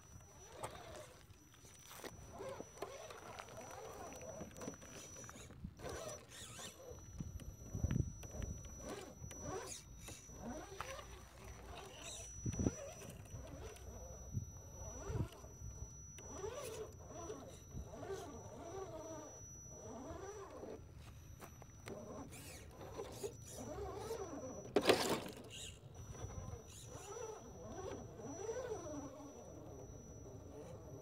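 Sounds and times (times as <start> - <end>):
electric motor and gear whine: 0.0 - 31.0.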